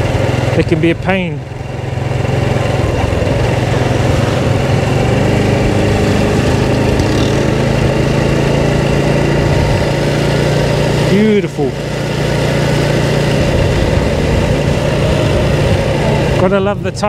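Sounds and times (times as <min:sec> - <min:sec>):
motorbike engine running: 0:00.0 - 0:17.0
rush of riding noise: 0:00.0 - 0:17.0.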